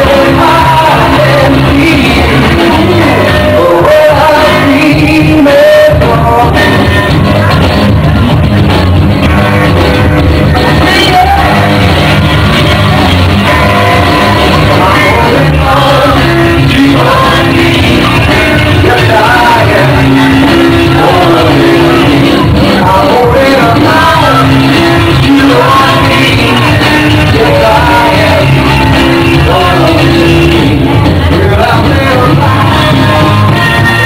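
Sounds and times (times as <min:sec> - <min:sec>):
loud rock music with singing: 0:00.0 - 0:34.0.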